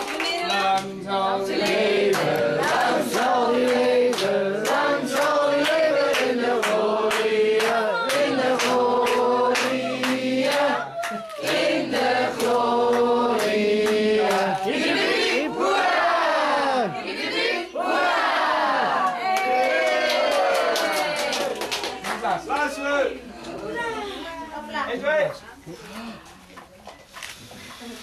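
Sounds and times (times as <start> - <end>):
group singing birthday song: 0.0 - 23.6.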